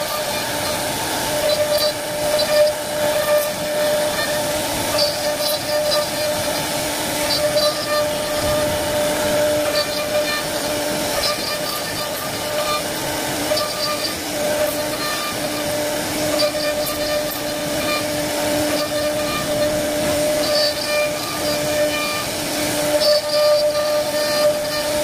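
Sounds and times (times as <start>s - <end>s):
router spindle whine: 0.0s - 25.0s
wood cutting noise: 0.0s - 25.0s.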